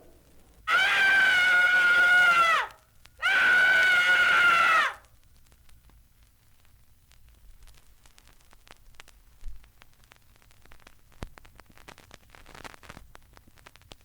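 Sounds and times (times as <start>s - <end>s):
vinyl record crackles and pops: 0.0s - 14.0s.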